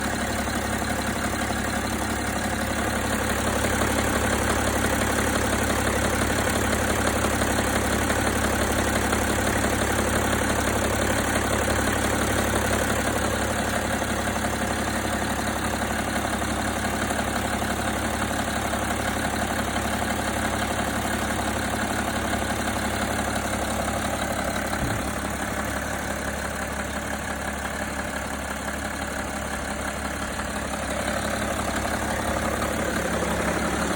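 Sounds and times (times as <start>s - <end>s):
diesel engine idling: 0.0s - 33.9s
engine knocking: 0.0s - 33.9s.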